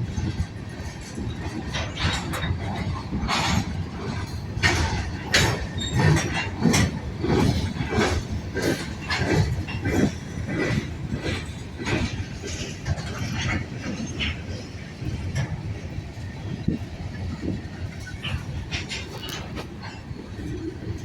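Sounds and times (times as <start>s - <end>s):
freight train rumble: 0.0s - 21.0s
metallic clanks from wheels: 0.1s - 15.9s, 17.4s - 21.0s.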